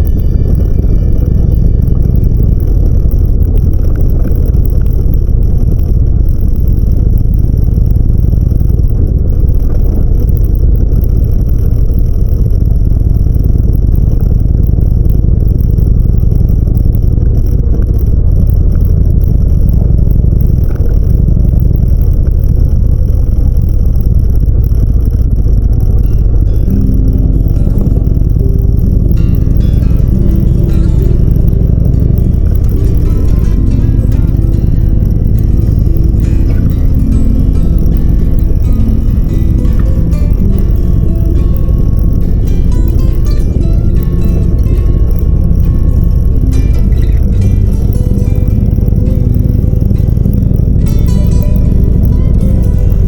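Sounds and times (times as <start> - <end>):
motorcycle engine cruising: 0.0 - 53.0
wind noise: 0.0 - 53.0.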